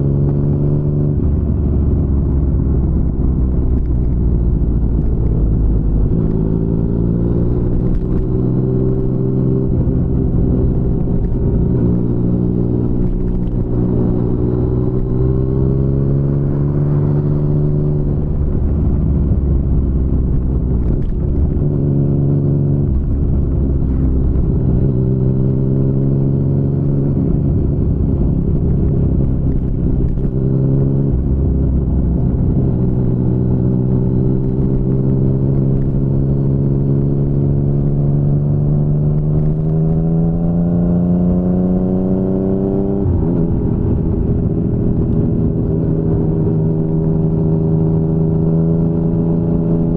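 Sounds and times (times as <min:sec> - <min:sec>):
motorcycle engine revving: 0:04.8 - 0:49.9.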